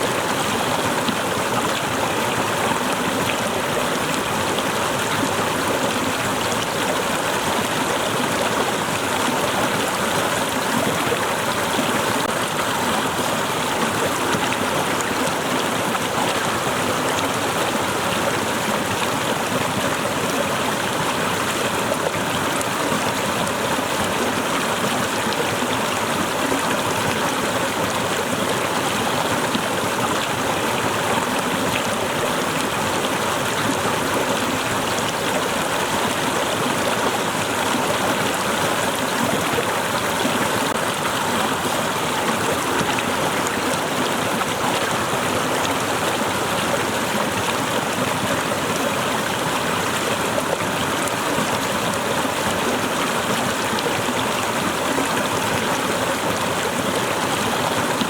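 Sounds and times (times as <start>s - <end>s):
waterfall splashing and rushing: 0.0s - 58.0s.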